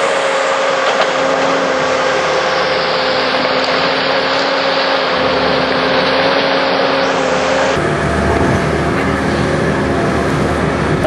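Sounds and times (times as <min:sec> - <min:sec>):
motor engine running: 0:00.0 - 0:11.0.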